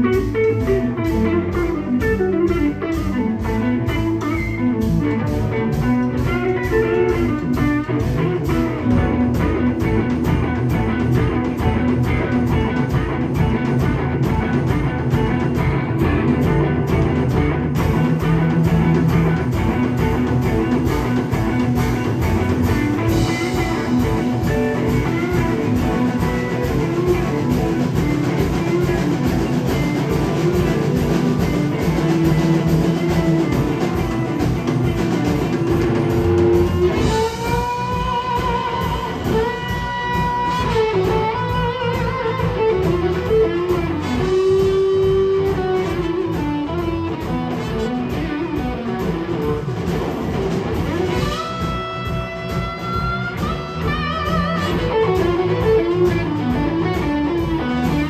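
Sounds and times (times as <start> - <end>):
blues rock guitar: 0.0 - 58.0
drum kit beat: 0.0 - 58.0
lead guitar bending notes: 0.0 - 58.0.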